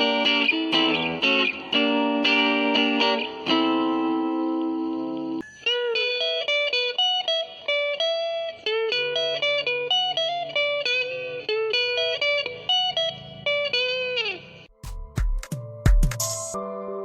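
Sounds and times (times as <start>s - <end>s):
electric guitar melody: 0.0s - 14.8s, 16.2s - 17.0s.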